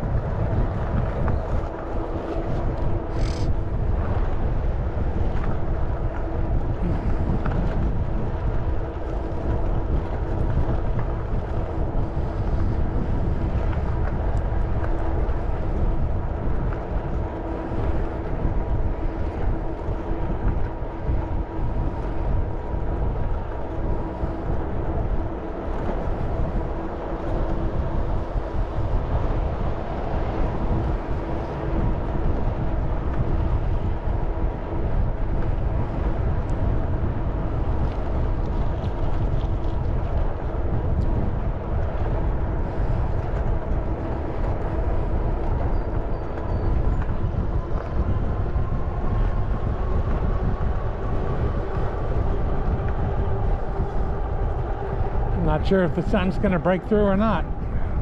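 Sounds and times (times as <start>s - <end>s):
steady hum: 0.0s - 58.0s
wind rushing over microphone: 0.0s - 58.0s.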